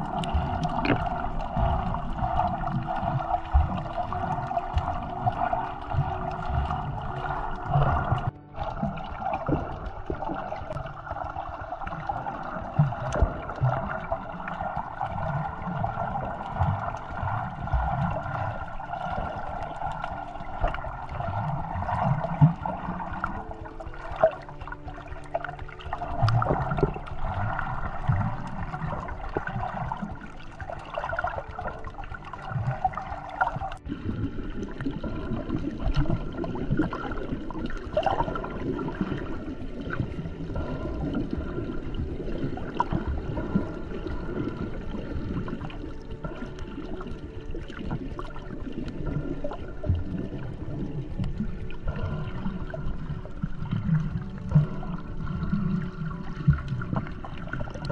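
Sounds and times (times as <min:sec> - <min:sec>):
muffled underwater gurgling: 0:00.0 - 0:57.9.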